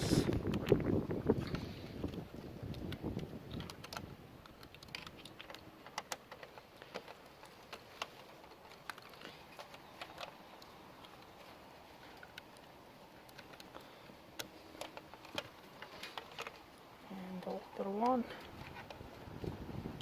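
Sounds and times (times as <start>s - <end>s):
clicks of plastic cable connectors: 1.4s - 16.8s, 17.4s - 20.0s.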